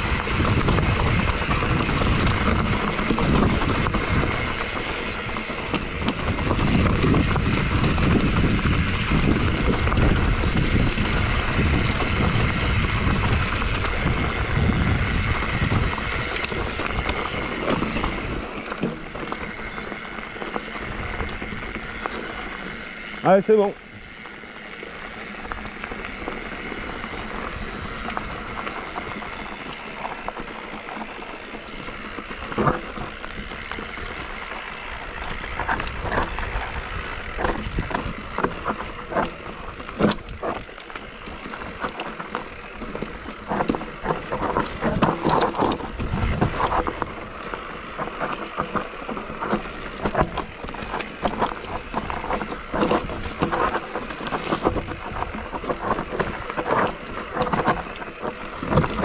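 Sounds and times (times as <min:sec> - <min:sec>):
motorbike riding over rough trail: 0:00.0 - 0:59.0.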